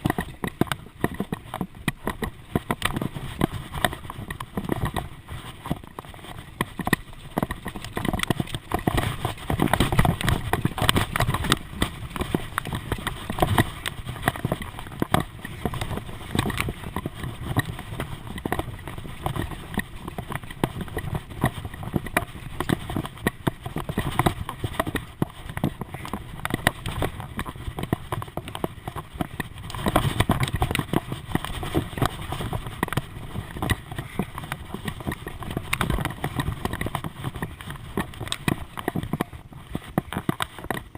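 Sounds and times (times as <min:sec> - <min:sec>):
bicycle clattering and knocking: 0:00.0 - 0:40.9
rumble of wind and tyres: 0:00.0 - 0:40.9.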